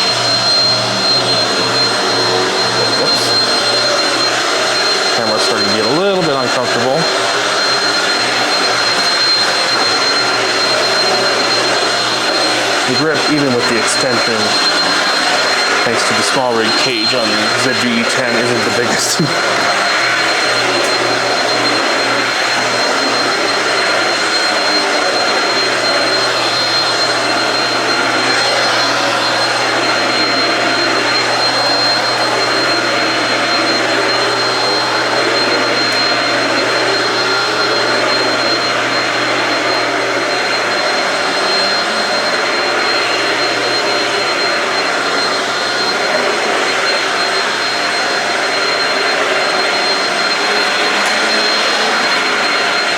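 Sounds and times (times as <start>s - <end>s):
high steady whine: 0.0s - 52.9s
vacuum cleaner running on carpet: 0.0s - 52.9s.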